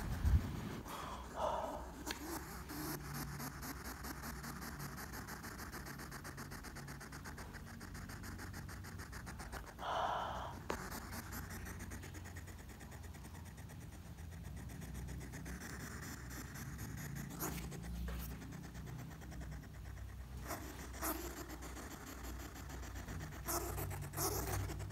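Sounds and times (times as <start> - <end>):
hedgehog huffing and ticking: 0.0 - 24.9.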